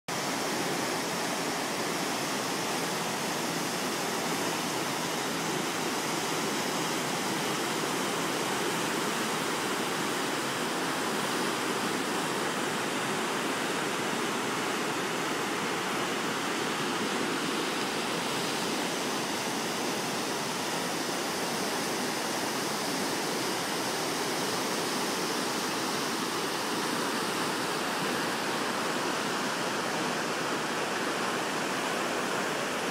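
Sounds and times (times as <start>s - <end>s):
river water rushing over stones: 0.1s - 32.9s.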